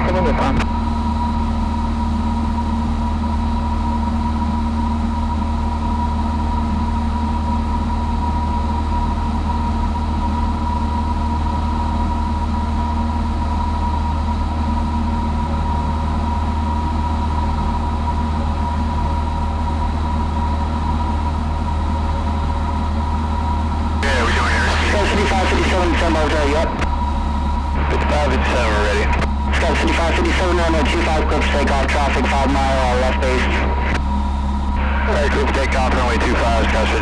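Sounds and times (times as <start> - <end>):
airplane engine and propeller drone: 0.0 - 37.0.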